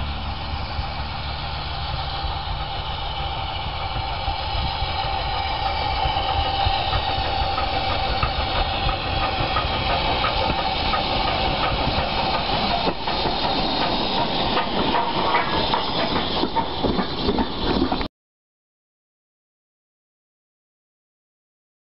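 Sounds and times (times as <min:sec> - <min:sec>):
steam hissing: 0:00.0 - 0:18.1
steam locomotive running: 0:00.0 - 0:18.1.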